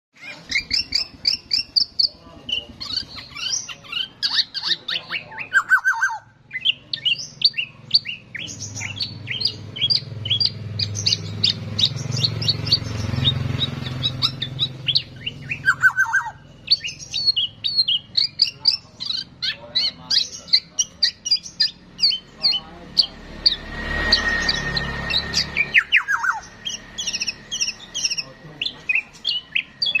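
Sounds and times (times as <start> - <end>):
songbird chirping and whistling: 0.2 - 30.0.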